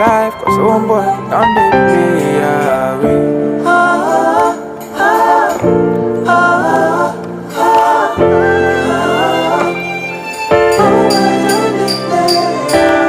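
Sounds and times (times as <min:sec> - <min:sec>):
song with choir backing: 0:01.9 - 0:13.0.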